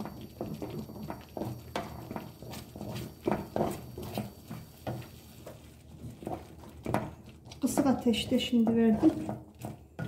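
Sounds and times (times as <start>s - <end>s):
spoon knocking and scraping pan: 0.0s - 10.0s
wooden spoon stirring thick mixture: 0.0s - 10.0s.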